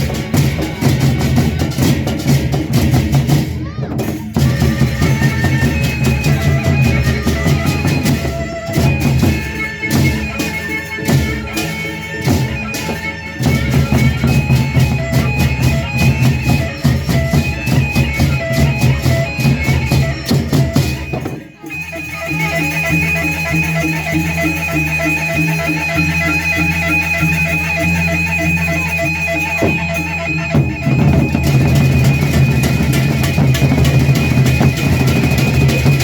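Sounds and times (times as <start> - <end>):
driving drumming: 0.0 - 36.0
reedy lead melody: 4.4 - 36.0.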